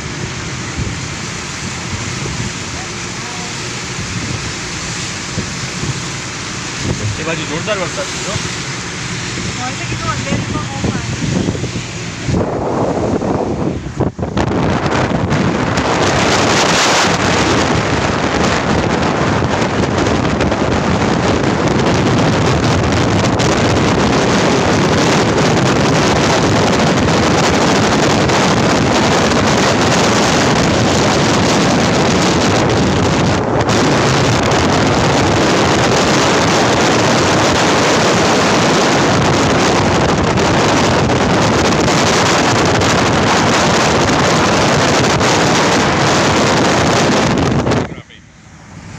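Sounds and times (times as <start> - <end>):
wind and road noise: 0.0 - 48.9
wind buffeting microphone: 0.0 - 48.9.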